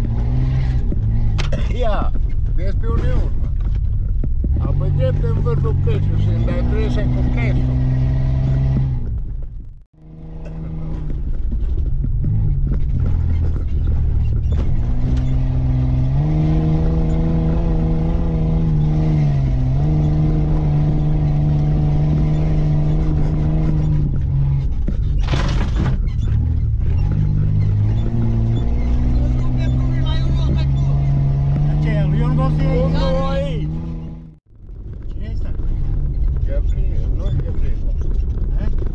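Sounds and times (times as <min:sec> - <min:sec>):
car engine under load: 0:00.0 - 0:38.9.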